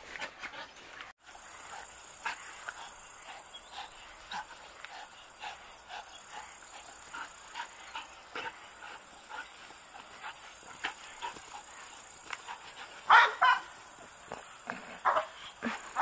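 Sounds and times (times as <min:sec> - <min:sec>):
dog panting: 0:00.1 - 0:13.6.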